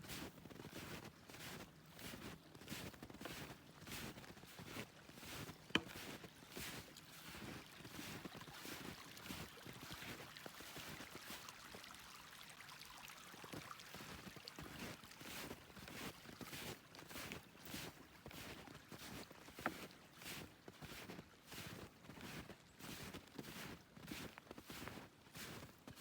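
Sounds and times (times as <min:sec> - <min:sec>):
snowshoe footsteps crunching in snow: 0:00.0 - 0:11.1, 0:14.0 - 0:26.0.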